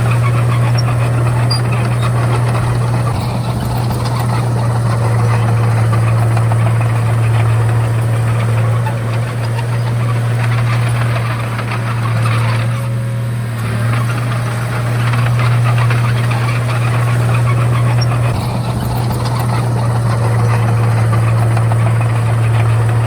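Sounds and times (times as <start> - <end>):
bulldozer diesel engine droning: 0.0 - 23.0.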